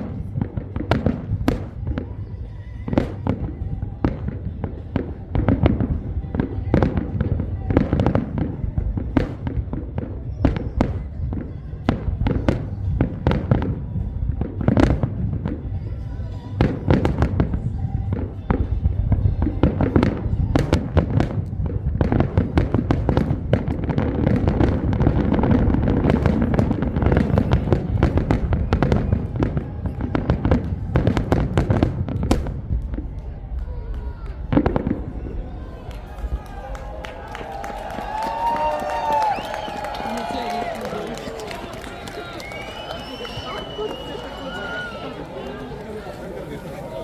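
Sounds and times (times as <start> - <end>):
low rumble of explosions: 0.0 - 39.8
fireworks bangs: 0.0 - 47.0.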